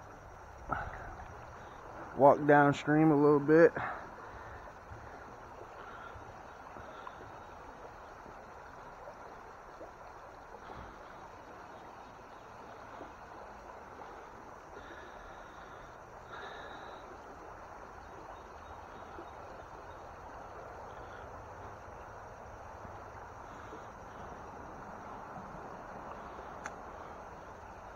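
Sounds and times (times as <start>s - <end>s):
stream rushing over rocks: 0.1s - 27.9s.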